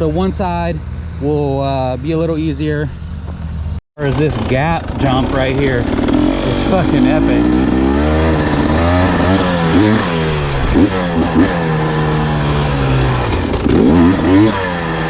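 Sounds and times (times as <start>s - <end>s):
dirt bike engine revving: 0.0s - 15.0s
engine running steadily: 0.0s - 15.0s.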